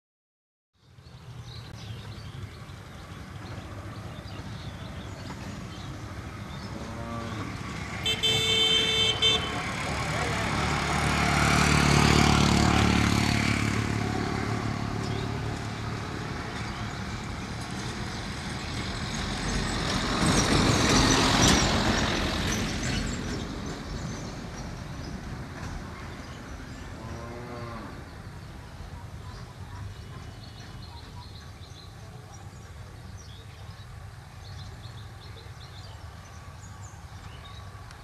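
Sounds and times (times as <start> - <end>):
vehicle engines passing: 0.8 - 38.0.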